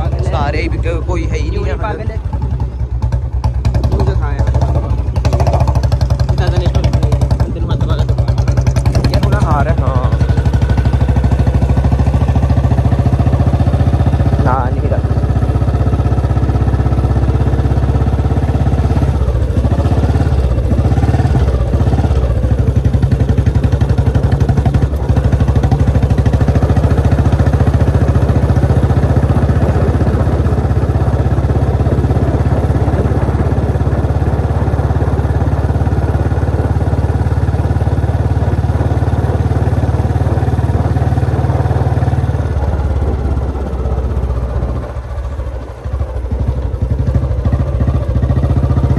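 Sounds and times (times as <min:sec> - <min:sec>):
motorcycle engine thumping: 0:00.0 - 0:48.9.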